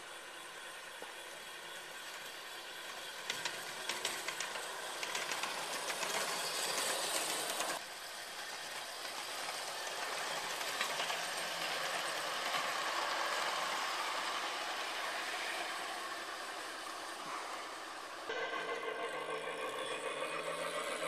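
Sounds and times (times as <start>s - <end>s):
miniature locomotive engine sound: 0.0s - 21.0s
wheels clicking on track: 0.0s - 21.0s.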